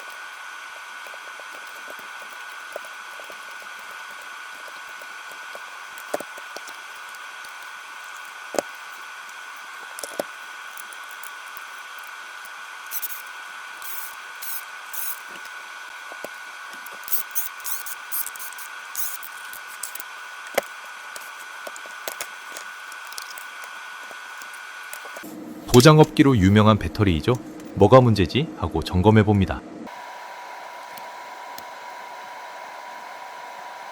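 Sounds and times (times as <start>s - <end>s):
high-pitched hum: 0.0s - 33.9s.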